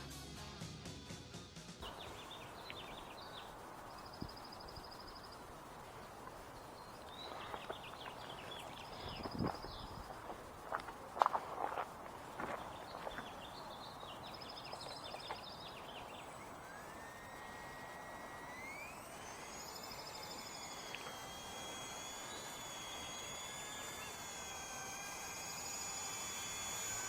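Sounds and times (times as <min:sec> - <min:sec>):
electric motor whine: 0:01.8 - 0:27.0.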